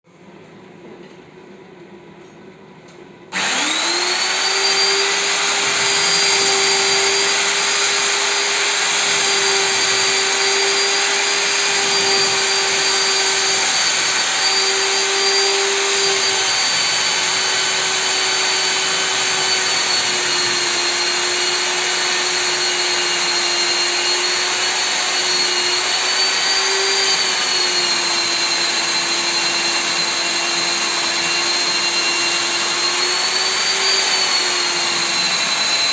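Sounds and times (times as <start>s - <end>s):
core drill motor whine: 3.3s - 35.9s.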